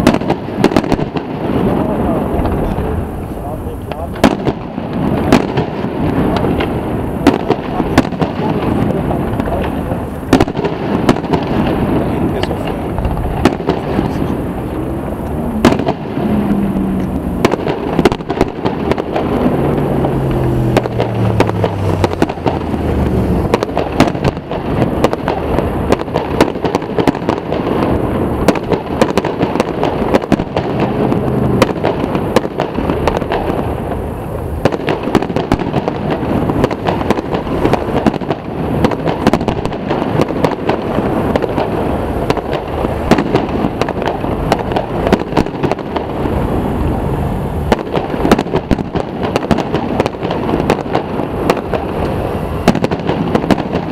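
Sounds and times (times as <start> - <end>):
fireworks bursting with bangs: 0.0 - 53.9
background murmur: 1.0 - 34.7, 35.8 - 53.9.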